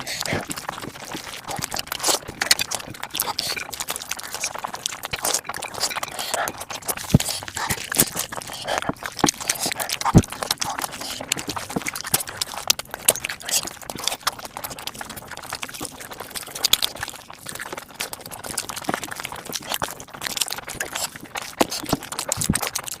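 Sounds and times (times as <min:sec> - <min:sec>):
crunching and smacking chews: 0:00.0 - 0:23.0.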